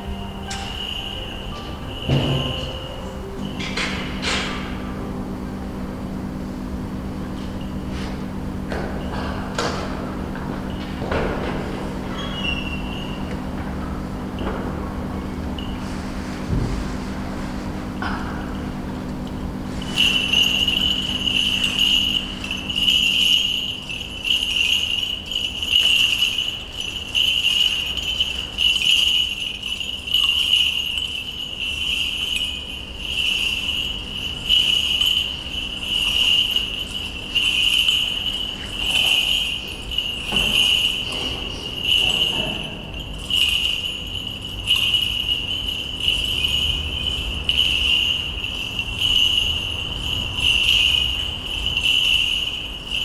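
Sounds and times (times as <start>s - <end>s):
censer bells jingling: 0.0s - 5.8s, 6.9s - 16.3s, 17.9s - 53.0s.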